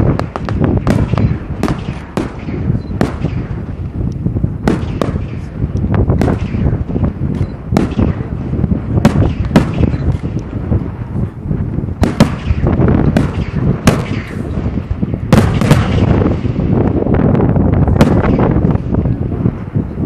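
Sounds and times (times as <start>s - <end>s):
firework shells bursting: 0.0s - 19.9s
low rumble of launches: 0.0s - 20.0s.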